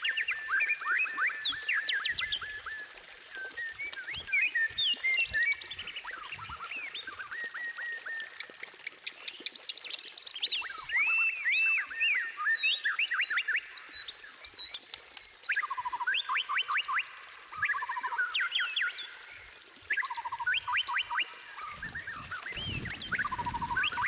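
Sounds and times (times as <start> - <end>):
bird singing whistled phrases: 0.0 - 8.5, 9.6 - 14.8, 15.4 - 19.2, 19.9 - 24.0.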